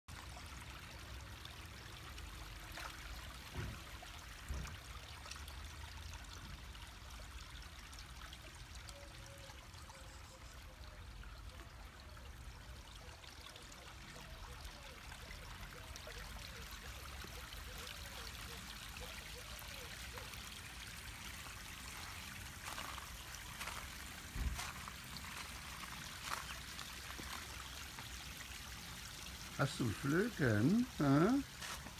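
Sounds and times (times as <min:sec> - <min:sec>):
water trickling into pond: 0:00.1 - 0:31.9.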